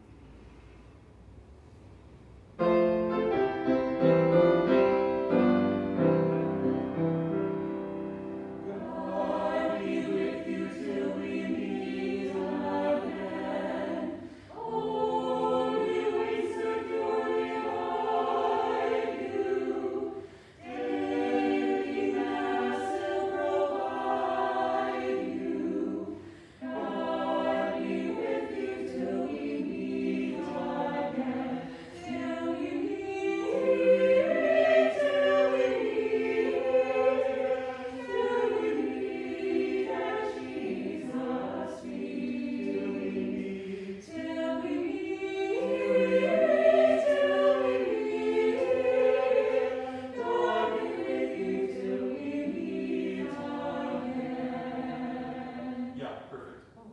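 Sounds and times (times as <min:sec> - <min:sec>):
piano: 0:02.4 - 0:56.9
hymn singing: 0:04.6 - 0:56.9.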